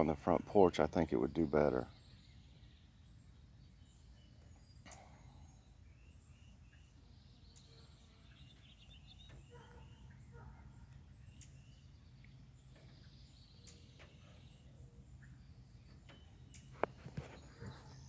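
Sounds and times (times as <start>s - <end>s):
low background hum: 0.0s - 18.0s
songbirds chirping: 0.0s - 18.0s.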